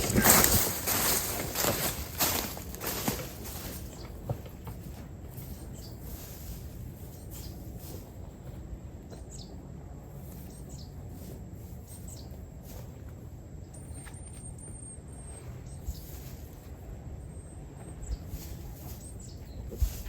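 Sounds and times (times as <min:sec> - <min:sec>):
birds chirping: 0:00.0 - 0:20.0
low outdoor background noise: 0:00.0 - 0:20.0
thin high birdsong: 0:00.0 - 0:20.0.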